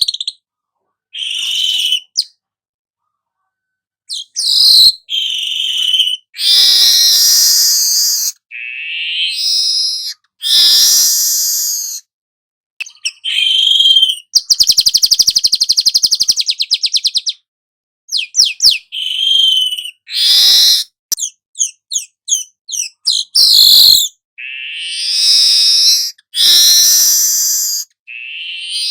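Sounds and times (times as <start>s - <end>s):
weaver bird whistling song: 0.0s - 0.4s, 1.1s - 2.4s, 4.1s - 12.1s, 12.8s - 17.5s, 18.1s - 28.9s
sharp bird chips: 4.1s - 12.0s, 12.8s - 17.4s, 18.1s - 28.9s.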